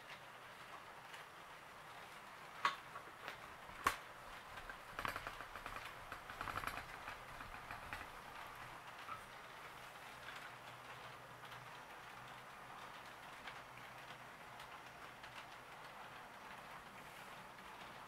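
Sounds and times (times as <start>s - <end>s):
model train wheels clicking: 0.0s - 18.0s.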